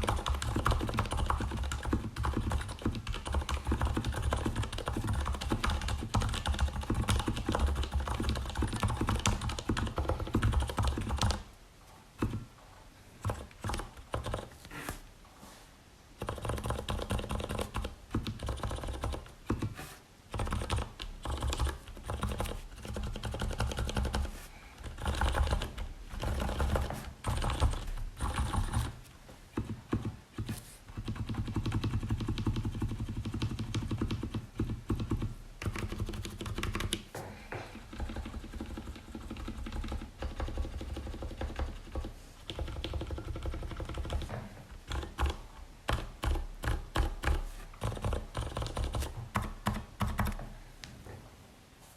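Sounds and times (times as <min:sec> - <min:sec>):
typing on mechanical keyboard: 0:00.0 - 0:11.5, 0:12.2 - 0:12.5, 0:13.2 - 0:14.5, 0:16.2 - 0:29.0, 0:29.6 - 0:37.1, 0:37.8 - 0:50.4.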